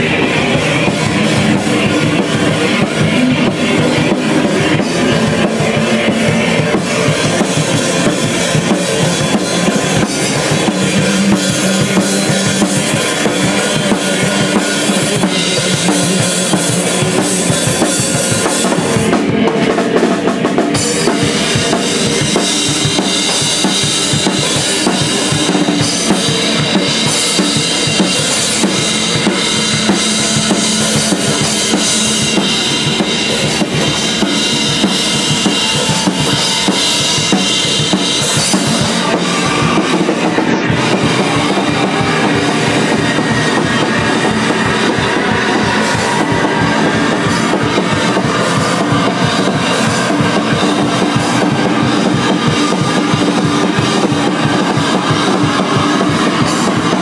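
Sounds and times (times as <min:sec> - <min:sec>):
drum kit played hard: 0:00.0 - 0:57.0
rock band music: 0:00.0 - 0:57.0.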